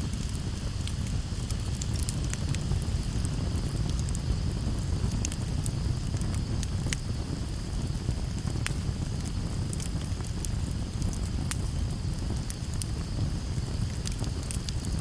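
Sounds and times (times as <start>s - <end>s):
campfire flame rushing: 0.0s - 15.0s
wood crackling and popping: 0.0s - 15.0s.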